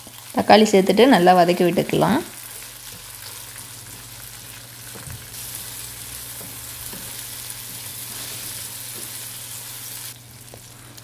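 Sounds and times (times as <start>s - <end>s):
onion and tomato sizzling in oil: 0.0s - 11.0s.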